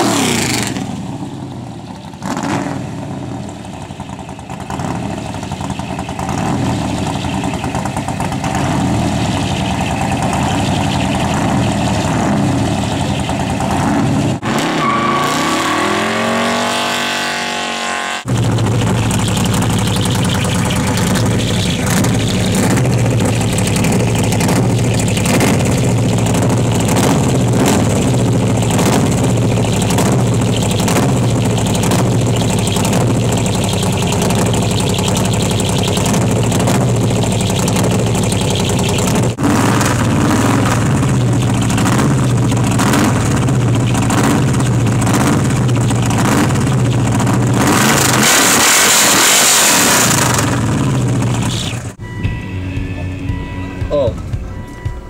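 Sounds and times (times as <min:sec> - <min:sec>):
engine idling: 0:00.0 - 0:14.4, 0:18.2 - 0:48.4, 0:50.0 - 0:55.0.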